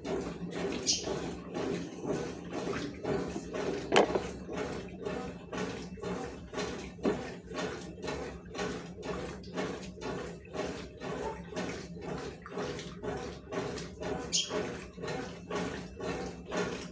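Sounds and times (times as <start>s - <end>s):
washing machine water sloshing: 0.0s - 16.9s.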